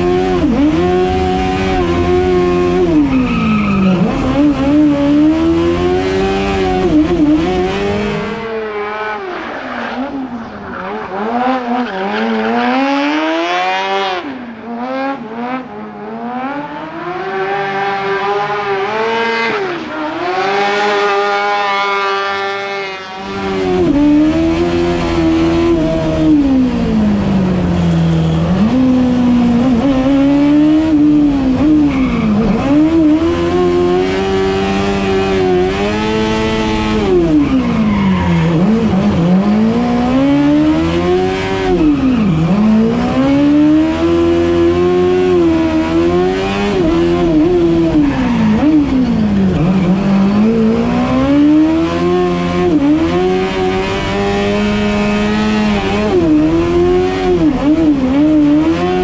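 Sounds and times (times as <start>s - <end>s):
motorcycle engine revving high: 0.0s - 9.2s, 16.2s - 59.0s.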